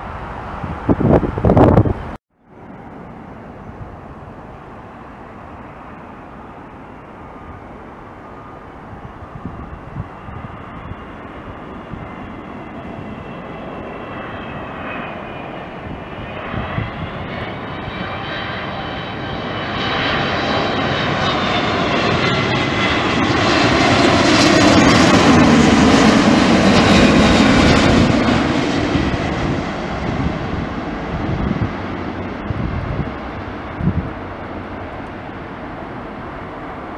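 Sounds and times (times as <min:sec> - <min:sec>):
jet airliner engines roaring: 0:00.0 - 0:36.9.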